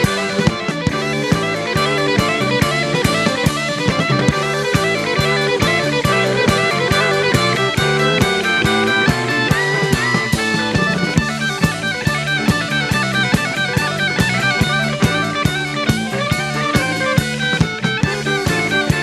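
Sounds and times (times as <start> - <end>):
bass: 0.0 - 19.0
drum kit: 0.0 - 19.0
electric guitar: 0.0 - 19.0.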